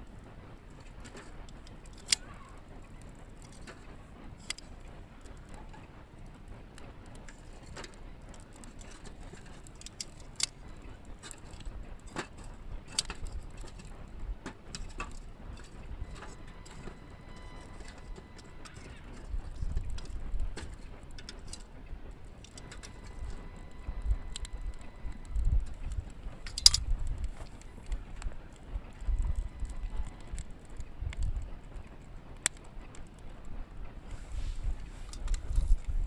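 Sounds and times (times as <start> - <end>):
low steady background noise: 0.0 - 36.0.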